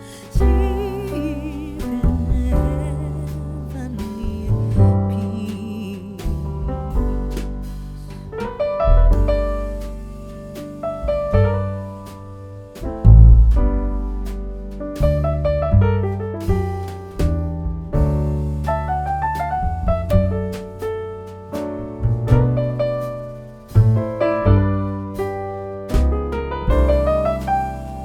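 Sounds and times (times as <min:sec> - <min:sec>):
piano music with deep bass: 0:00.0 - 0:28.0.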